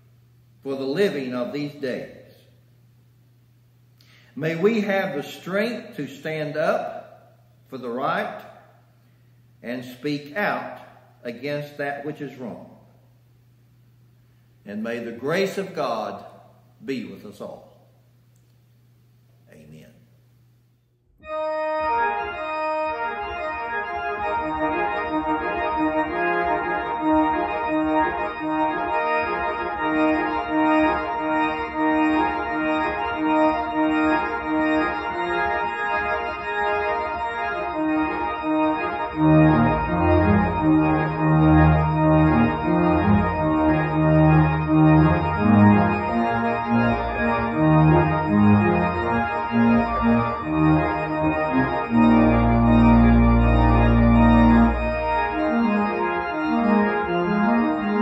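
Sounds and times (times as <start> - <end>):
church organ chords: 0.0 - 2.6, 4.1 - 13.3, 14.6 - 17.6, 21.2 - 58.0.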